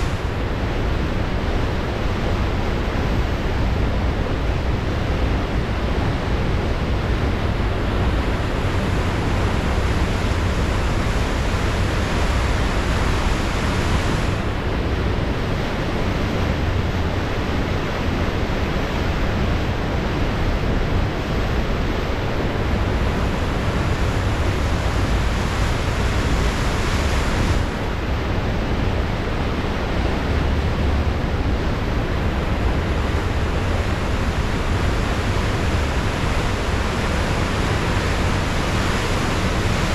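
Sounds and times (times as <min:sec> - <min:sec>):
ocean surf washing: 0:00.0 - 0:39.9
wind rumbling on microphone: 0:00.0 - 0:39.9.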